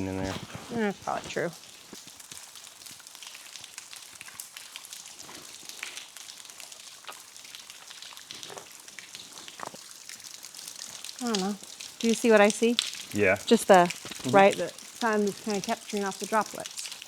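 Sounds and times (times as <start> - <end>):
trickling waterfall: 0.0 - 17.0
droplets pattering on rock: 0.2 - 17.0.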